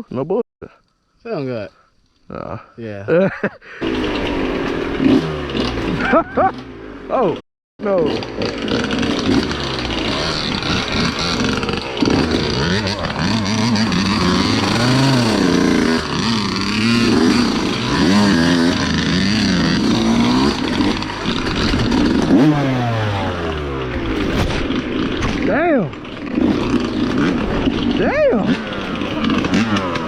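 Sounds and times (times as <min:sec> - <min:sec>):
dirt bike engine revving: 0:03.8 - 0:30.0.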